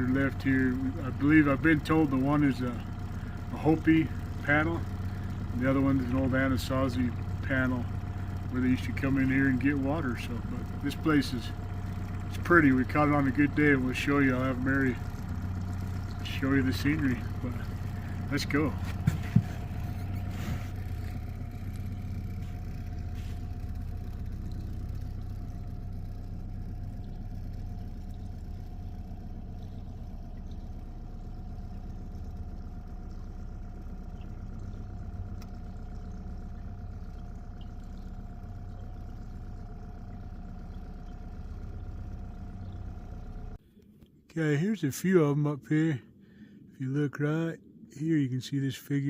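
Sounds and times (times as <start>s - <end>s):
outboard motor putting: 0.0s - 49.0s.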